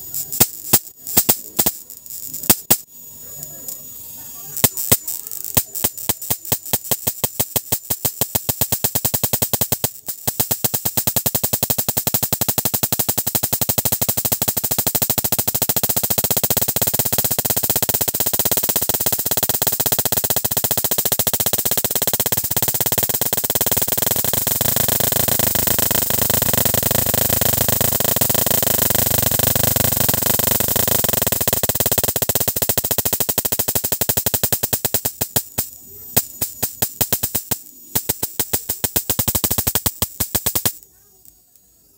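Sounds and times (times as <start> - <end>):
high-voltage spark discharges snapping: 0.0 - 41.8.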